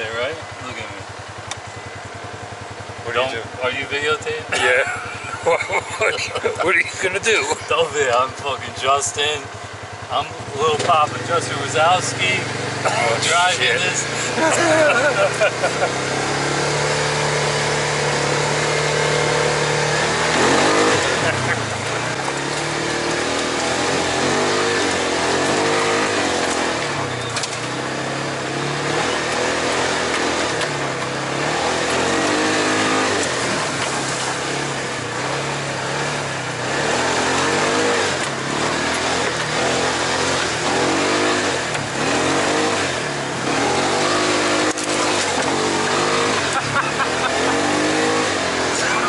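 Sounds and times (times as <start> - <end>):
utility vehicle engine revving: 0.0 - 49.0.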